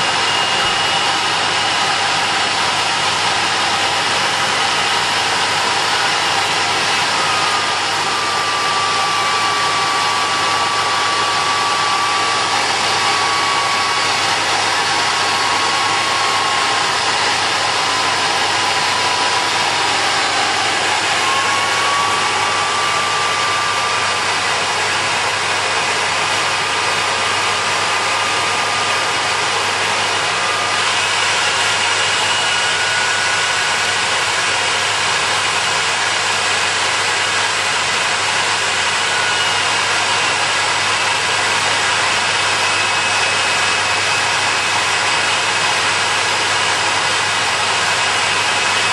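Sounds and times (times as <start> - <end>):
jet engine rushing with turbine whine: 0.0 - 48.9.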